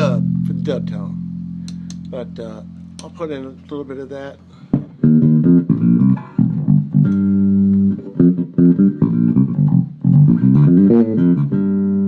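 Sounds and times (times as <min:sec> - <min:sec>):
electric bass plucked riff: 0:00.0 - 0:12.0.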